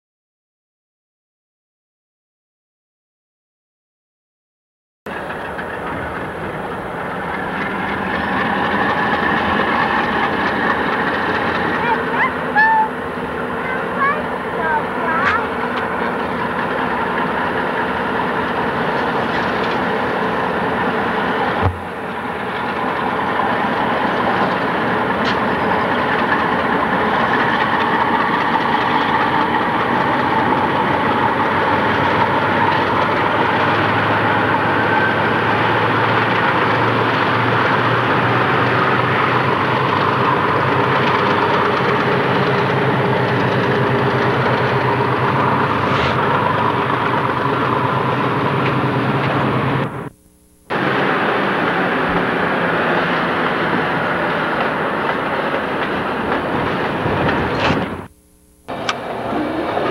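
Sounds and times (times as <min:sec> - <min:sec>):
freight cars rolling over rails: 0:05.1 - 0:50.1, 0:50.7 - 0:58.1, 0:58.7 - 0:59.9
diesel locomotive engine rumble: 0:05.1 - 0:59.9.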